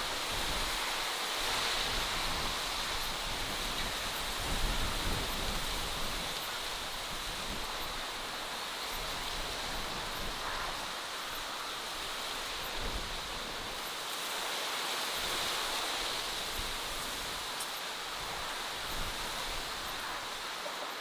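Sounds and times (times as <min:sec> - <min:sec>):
steady hiss of running water or wind: 0:00.0 - 0:21.0.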